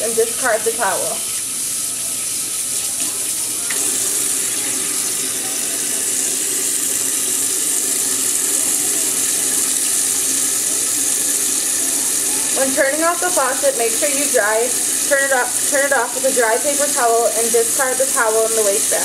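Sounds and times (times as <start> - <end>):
tap water running into steel sink: 0.0 - 19.0.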